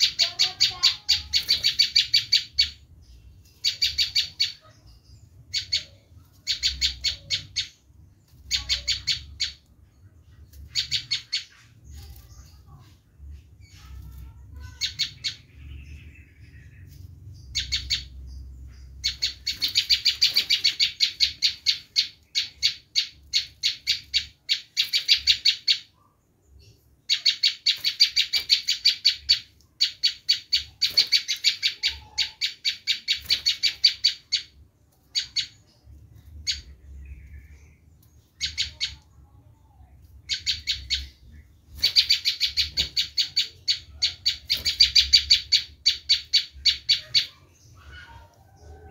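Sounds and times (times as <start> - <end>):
bird harsh chipping calls: 0.0 - 48.9.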